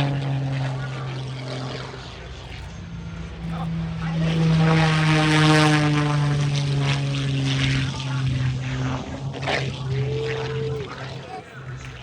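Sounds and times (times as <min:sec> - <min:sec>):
propeller airplane passing: 0:00.0 - 0:12.0.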